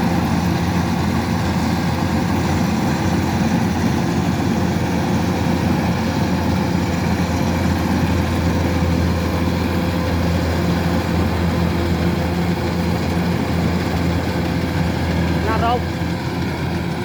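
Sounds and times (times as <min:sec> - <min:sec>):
combine harvester diesel engine running: 0:00.0 - 0:17.0.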